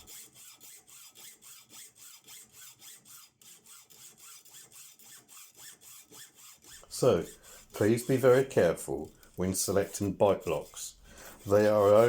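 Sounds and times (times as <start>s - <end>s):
saw cutting cable: 0.0s - 12.0s.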